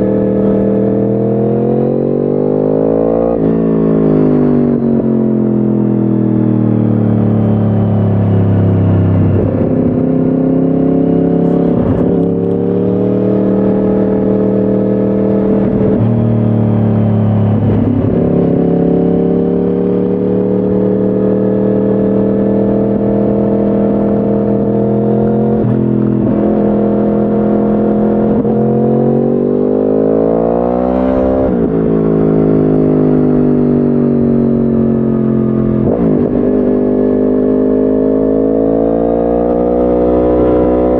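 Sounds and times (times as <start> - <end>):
motorcycle engine while riding: 0.0 - 40.9.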